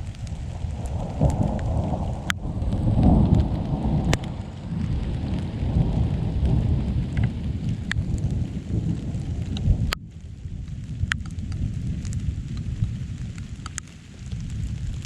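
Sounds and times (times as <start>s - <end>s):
raindrops tapping close by: 0.0s - 15.0s
steady rain: 0.0s - 15.0s
thunder rumbling: 0.0s - 15.0s.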